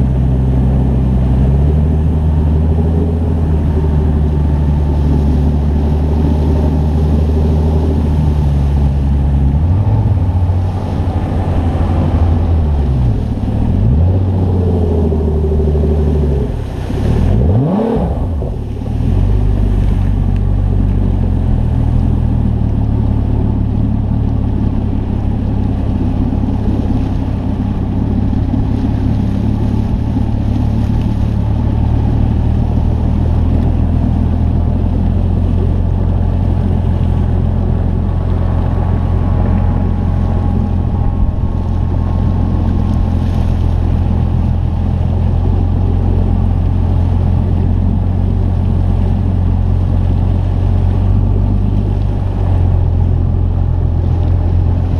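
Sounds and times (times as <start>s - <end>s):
boat engine droning: 0.0s - 54.9s.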